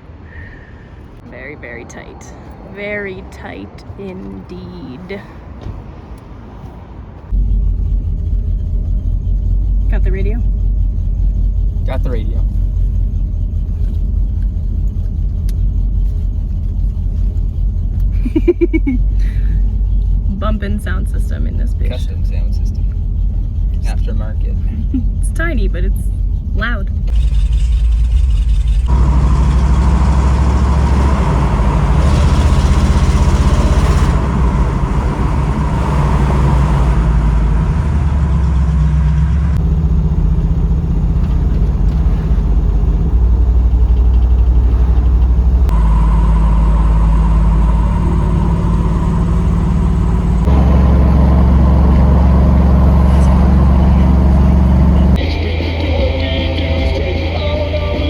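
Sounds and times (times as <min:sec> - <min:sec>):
car engine: 0:00.0 - 0:58.0.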